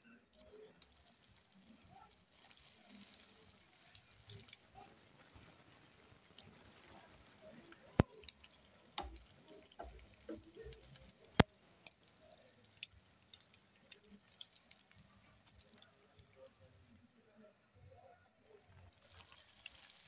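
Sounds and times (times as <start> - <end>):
oil frying and crackling: 0.0 - 17.5, 18.4 - 20.0.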